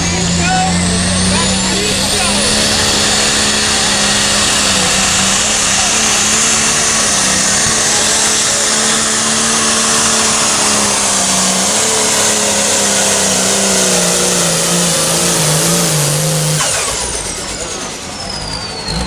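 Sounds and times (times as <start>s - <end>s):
heavy rushing noise: 0.0s - 19.0s
tractor engine at high revs: 0.0s - 19.0s.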